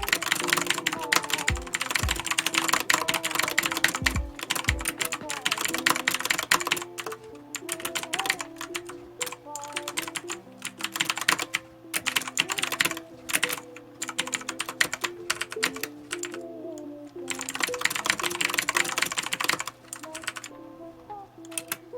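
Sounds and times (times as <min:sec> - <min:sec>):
clicky mechanical keyboard typing: 0:00.0 - 0:16.5, 0:17.3 - 0:20.5, 0:21.4 - 0:21.8
background music: 0:00.0 - 0:21.9.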